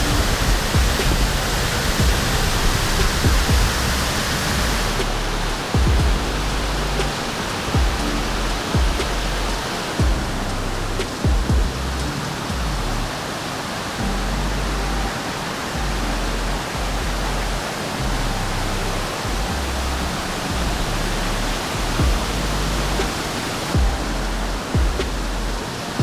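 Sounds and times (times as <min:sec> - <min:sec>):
background music bass line: 0:00.0 - 0:13.1, 0:14.0 - 0:15.2, 0:15.8 - 0:26.0
waterfall rushing: 0:00.0 - 0:26.0.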